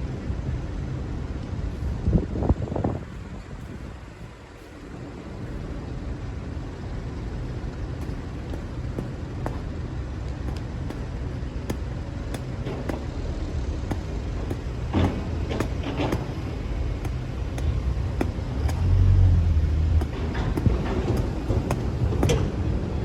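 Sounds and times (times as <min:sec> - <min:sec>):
excavator engine running: 0:04.1 - 0:23.0.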